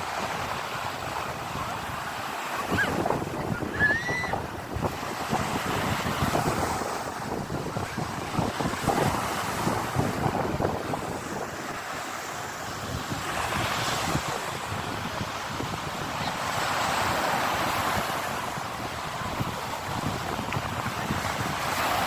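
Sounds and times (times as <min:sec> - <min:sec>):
sea waves breaking on shore: 0:00.0 - 0:22.0
wind buffeting microphone: 0:00.0 - 0:22.0.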